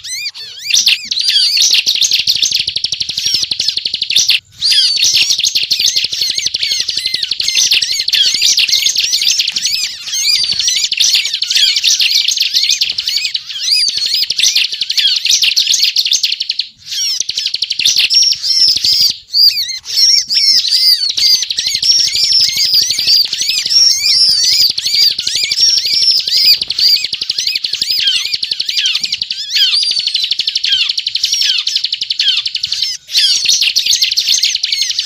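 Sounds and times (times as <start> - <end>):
bird singing rapid chirping notes: 0.0 - 35.0.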